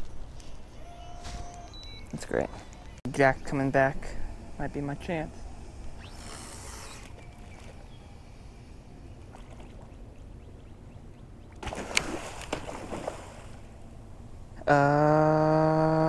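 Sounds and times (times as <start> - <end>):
low rumble of wind and water: 0.0 - 16.0.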